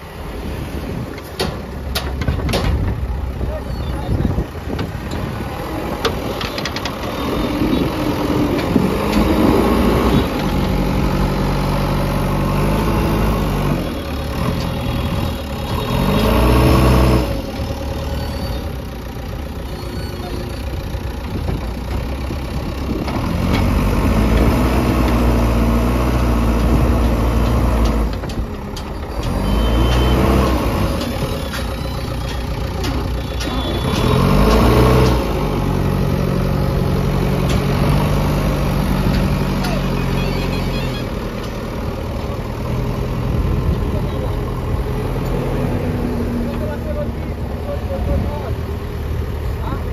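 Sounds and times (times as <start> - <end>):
diesel engine revving: 0.0 - 49.9.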